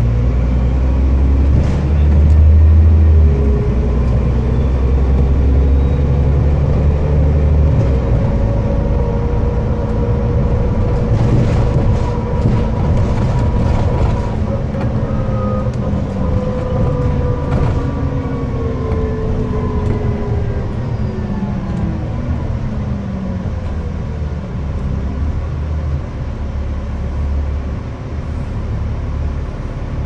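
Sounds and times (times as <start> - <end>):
bus engine idle rumble: 0.0 - 30.0
bus engine whine: 0.0 - 30.0.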